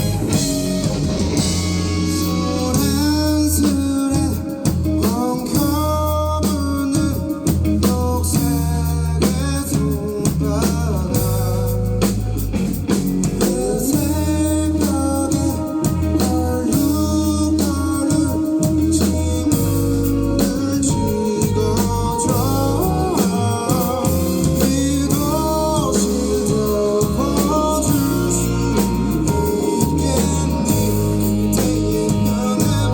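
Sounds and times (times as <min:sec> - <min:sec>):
person singing: 0:00.0 - 0:12.5, 0:13.2 - 0:32.9
bass notes: 0:00.0 - 0:32.9
drums: 0:00.0 - 0:32.9
guitar: 0:00.0 - 0:32.9.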